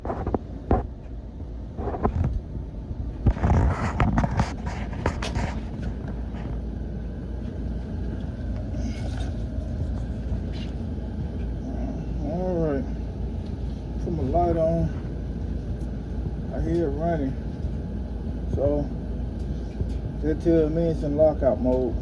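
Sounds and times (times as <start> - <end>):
furnace low rumble: 0.0 - 22.0.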